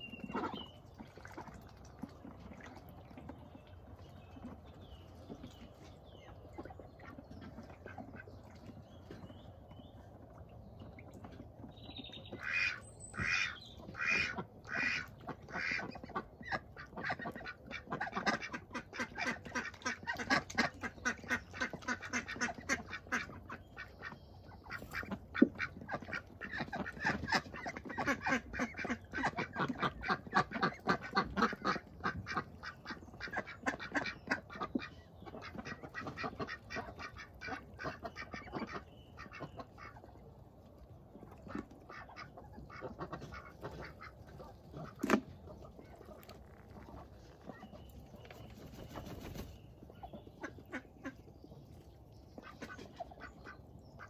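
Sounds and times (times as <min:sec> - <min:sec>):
ducks quacking: 0:00.0 - 0:01.5, 0:06.5 - 0:08.4, 0:12.3 - 0:40.2, 0:41.2 - 0:51.6, 0:52.3 - 0:54.0.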